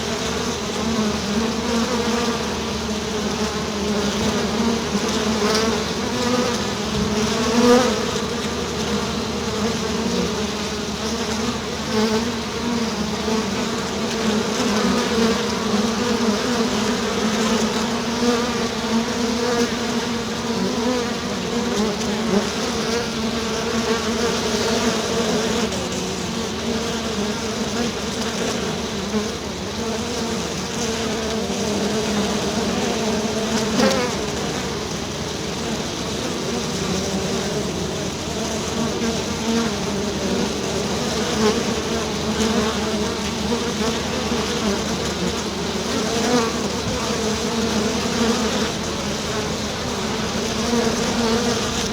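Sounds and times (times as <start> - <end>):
honeybees buzzing: 0.0 - 51.9.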